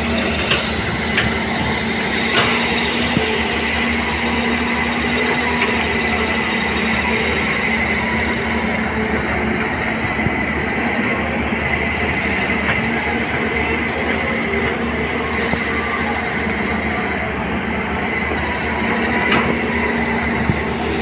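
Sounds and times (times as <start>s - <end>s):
excavator diesel engine drone: 0.0s - 21.0s
high whine: 0.0s - 21.0s.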